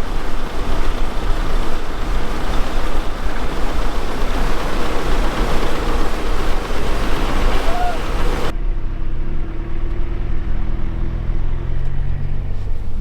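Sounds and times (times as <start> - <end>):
farm vehicle engine running: 0.0 - 13.0.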